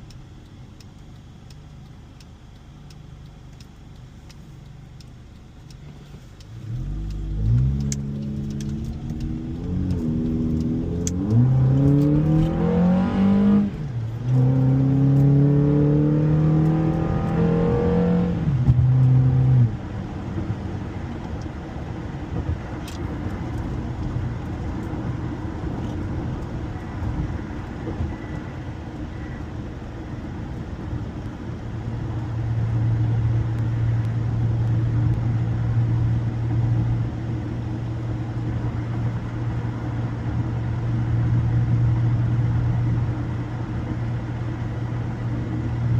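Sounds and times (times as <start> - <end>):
car engine accelerating: 0.0 - 45.9
road noise: 0.0 - 45.9.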